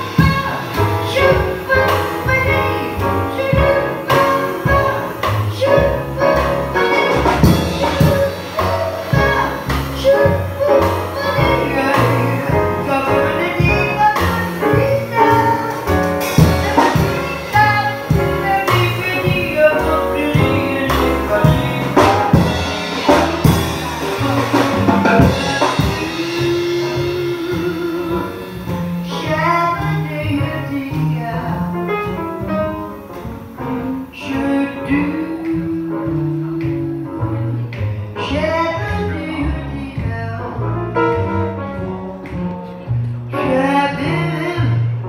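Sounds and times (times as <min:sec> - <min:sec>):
woman singing: 0:00.0 - 0:40.7, 0:43.3 - 0:45.0
drum kit: 0:00.0 - 0:45.0
grand piano: 0:00.0 - 0:45.0
upright bass: 0:00.0 - 0:45.0.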